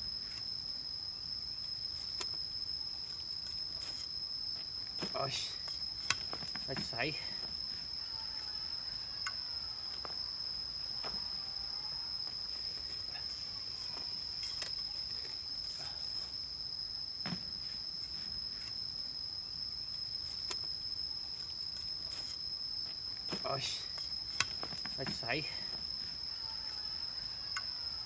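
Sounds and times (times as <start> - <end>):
crickets chirring: 0.0 - 28.0.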